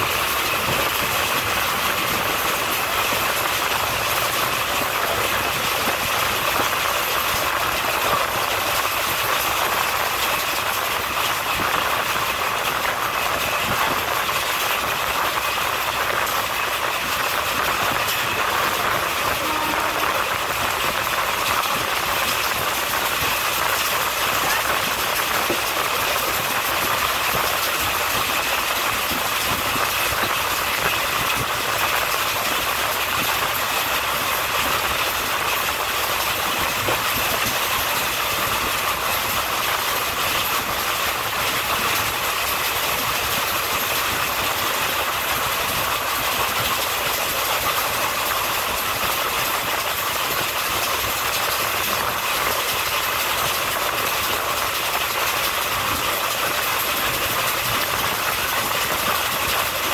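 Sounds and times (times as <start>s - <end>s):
train wheels rushing on rails: 0.0s - 59.9s.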